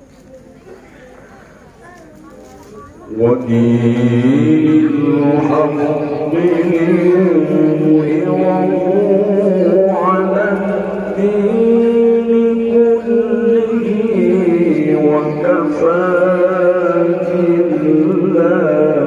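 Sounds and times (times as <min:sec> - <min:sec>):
man chanting melodically into microphone: 0:03.1 - 0:19.0.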